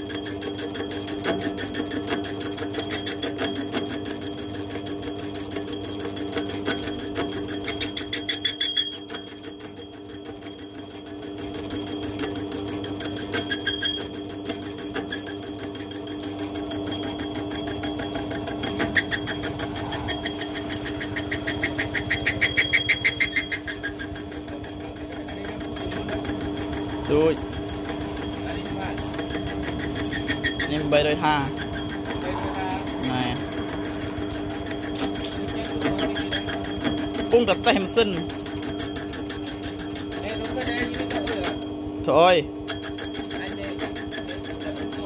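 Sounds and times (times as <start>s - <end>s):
fast even ticking: 0.0s - 41.8s
lathe motor and gear whine: 0.0s - 45.0s.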